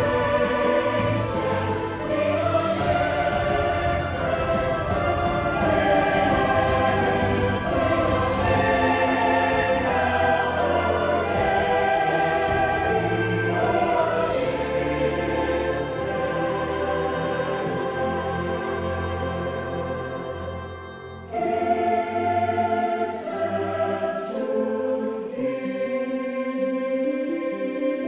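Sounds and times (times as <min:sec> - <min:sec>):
choir singing with orchestra: 0:00.0 - 0:28.0.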